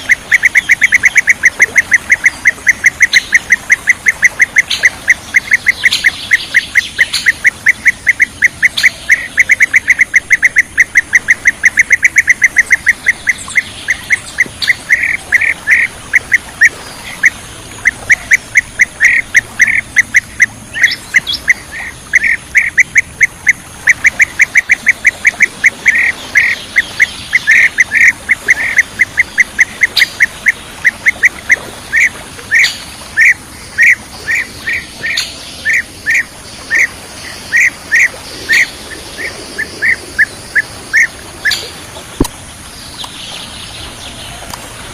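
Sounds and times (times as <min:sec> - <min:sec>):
bee-eater calling: 0:00.0 - 0:44.6.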